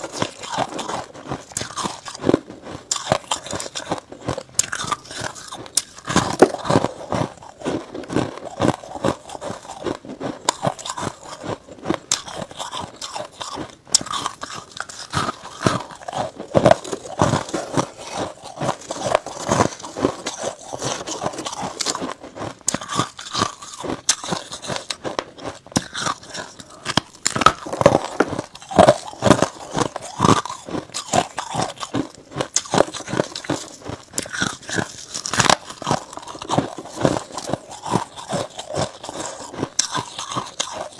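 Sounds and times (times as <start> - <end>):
crunching frost: 0.0 - 40.9.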